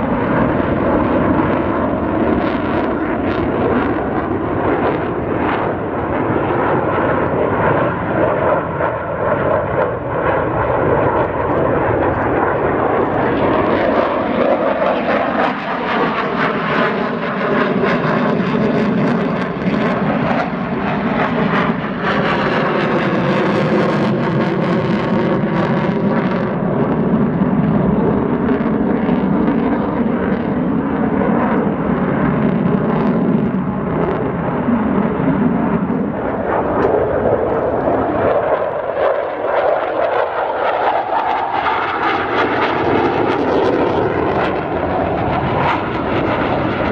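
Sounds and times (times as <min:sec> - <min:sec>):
jet engine roaring: 0:00.0 - 0:46.9.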